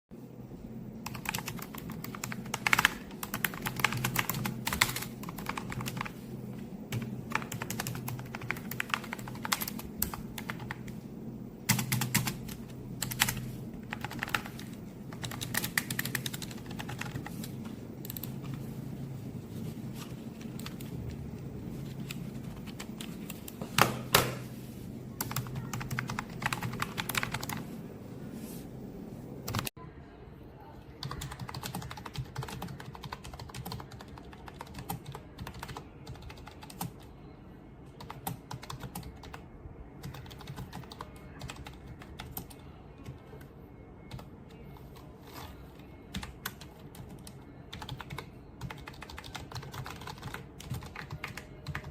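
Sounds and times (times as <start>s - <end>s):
low steady hum: 0.2s - 51.9s.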